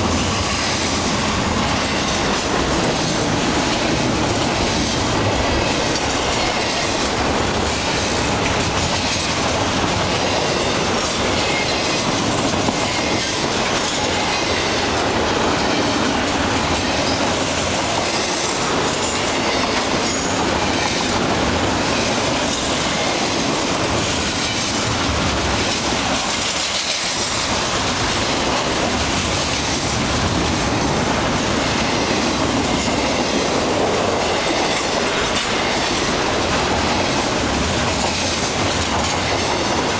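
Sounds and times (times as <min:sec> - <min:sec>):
train wheels rushing on rails: 0:00.0 - 0:39.9.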